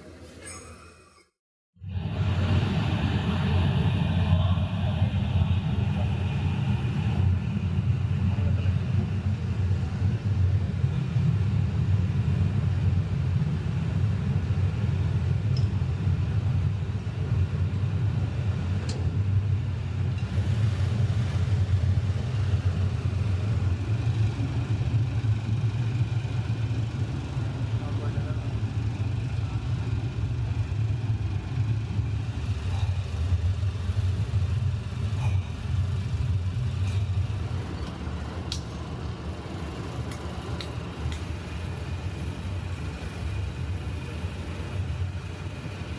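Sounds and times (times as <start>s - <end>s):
machinery rumbling: 1.8s - 45.9s.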